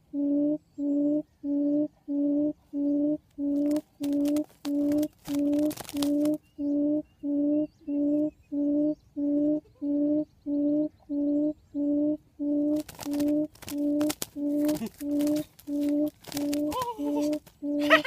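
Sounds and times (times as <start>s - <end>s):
low hooting quail call: 0.0s - 18.0s.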